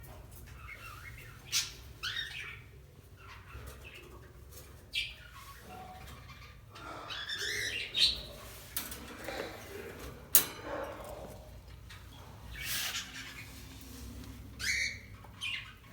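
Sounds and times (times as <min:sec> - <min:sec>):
bird chicks chirping and squawking: 0:00.0 - 0:15.9.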